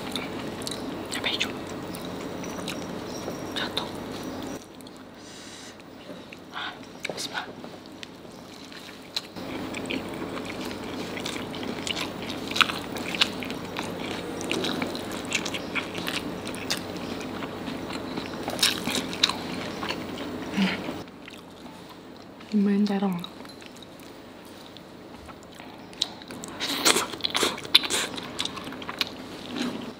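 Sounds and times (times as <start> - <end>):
close-miked wet chewing: 0.0 - 29.9.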